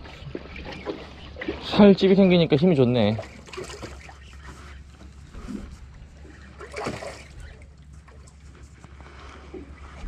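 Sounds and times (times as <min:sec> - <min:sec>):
boat engine humming: 0:00.0 - 0:10.0
water splashing against hull: 0:00.0 - 0:10.0.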